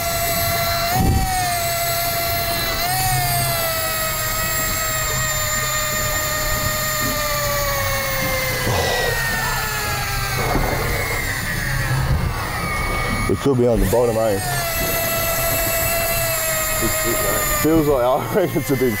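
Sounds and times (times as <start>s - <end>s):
fishing reel spool whining: 0.0s - 19.0s
low hum: 2.3s - 17.9s.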